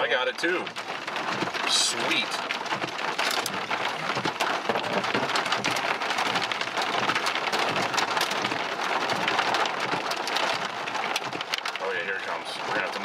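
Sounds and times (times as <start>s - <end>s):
heavy rain on hard surfaces: 0.0s - 13.0s.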